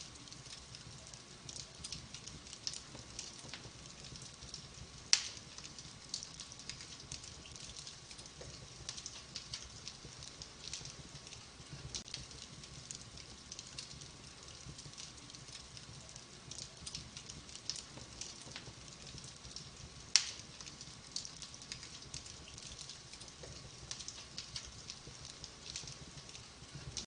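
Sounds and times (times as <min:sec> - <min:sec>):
low fire rumble: 0:00.0 - 0:27.0
wood fire crackling: 0:00.0 - 0:27.0.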